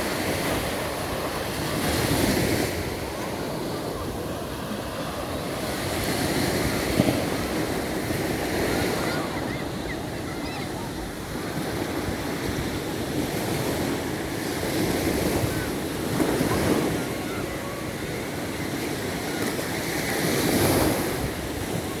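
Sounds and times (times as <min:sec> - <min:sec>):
waves breaking on shore: 0:00.0 - 0:22.0.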